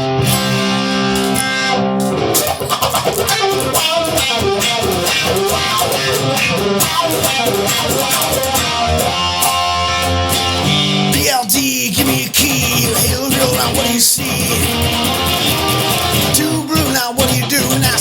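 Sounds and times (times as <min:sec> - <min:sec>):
blues electric guitar over bass: 0:00.0 - 0:18.0.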